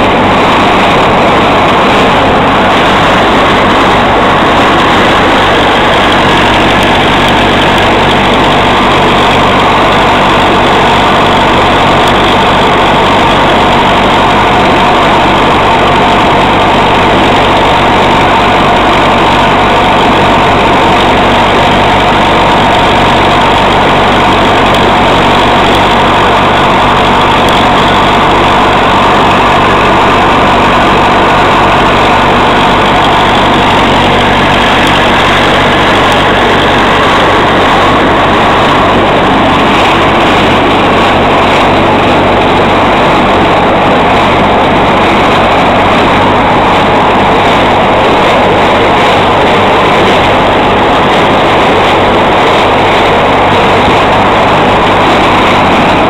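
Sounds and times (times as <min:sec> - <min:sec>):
corn picker running: 0:00.0 - 0:56.0
tractor diesel engine running: 0:00.0 - 0:56.0.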